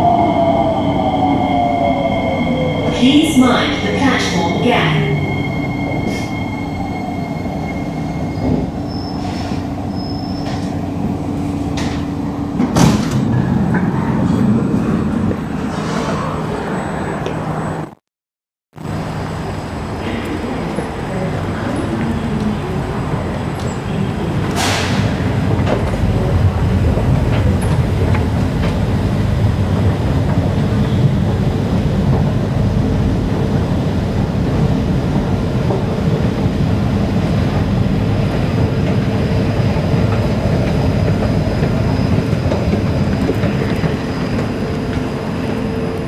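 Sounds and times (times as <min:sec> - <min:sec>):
escalator machinery rumbling: 0:00.0 - 0:17.9, 0:18.8 - 0:46.0.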